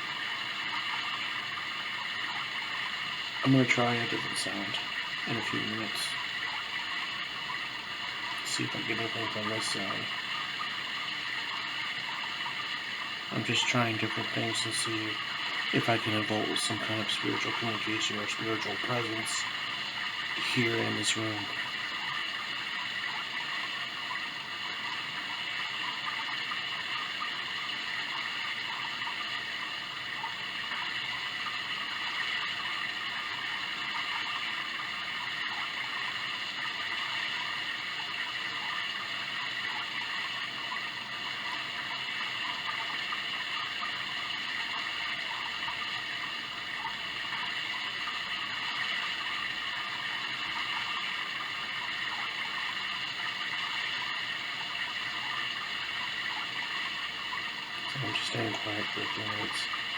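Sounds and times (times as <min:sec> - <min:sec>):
running water hiss: 0:00.0 - 0:59.9.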